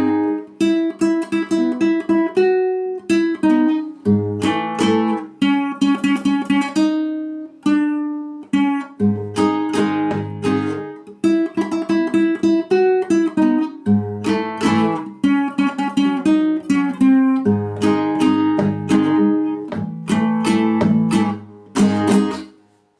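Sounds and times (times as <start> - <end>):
acoustic guitar melody: 0.0 - 22.9.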